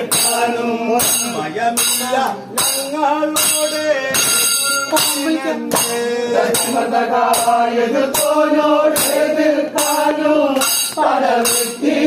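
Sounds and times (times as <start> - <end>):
men singing together: 0.0 - 12.0.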